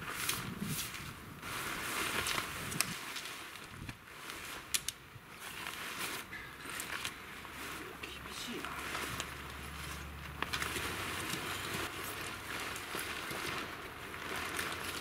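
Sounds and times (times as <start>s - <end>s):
tent fabric rustling: 0.0s - 15.0s.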